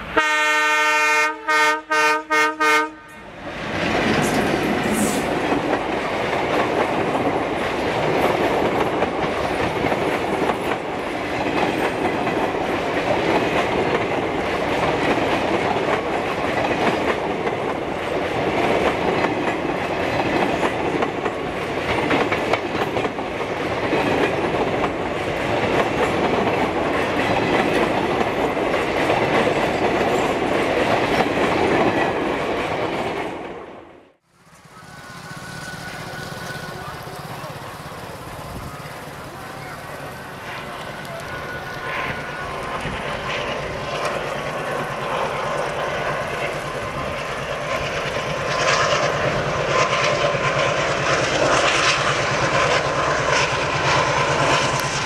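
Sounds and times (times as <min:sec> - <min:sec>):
train wheels rushing on rails: 0:00.0 - 0:55.0.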